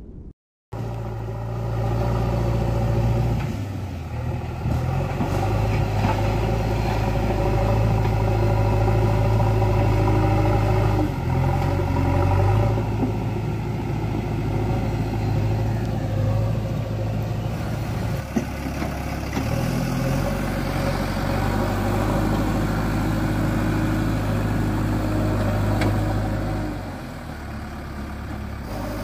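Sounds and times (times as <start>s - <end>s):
diesel engine working under load: 0.7s - 29.0s.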